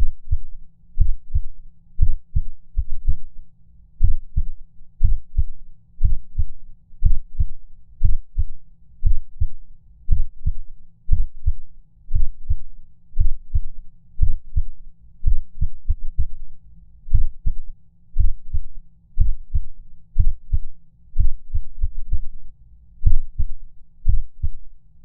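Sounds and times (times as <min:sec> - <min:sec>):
heartbeat double thumps: 0:00.0 - 0:03.3, 0:04.0 - 0:16.4, 0:17.1 - 0:17.6, 0:18.2 - 0:22.4, 0:23.0 - 0:24.6.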